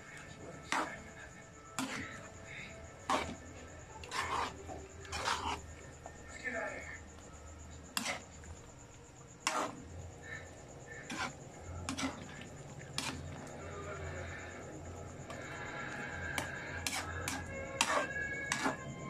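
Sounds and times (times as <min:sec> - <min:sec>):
spoon scraping metal pan: 0:00.2 - 0:06.0, 0:07.9 - 0:08.4, 0:09.4 - 0:19.0.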